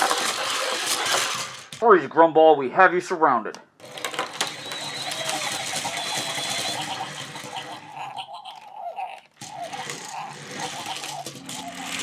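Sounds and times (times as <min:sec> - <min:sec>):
plastic rattle: 0:00.0 - 0:01.8, 0:03.8 - 0:12.0
toy electric motors whirring: 0:00.0 - 0:01.8, 0:03.8 - 0:12.0.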